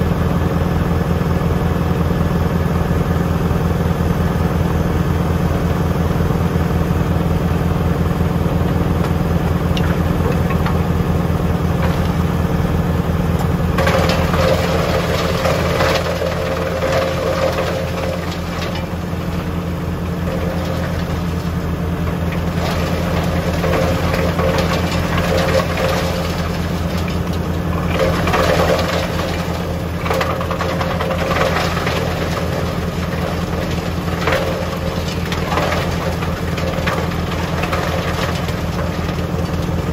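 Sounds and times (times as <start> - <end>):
engine hum: 0.0 - 39.9
wood chipper chipping wood: 0.0 - 39.9.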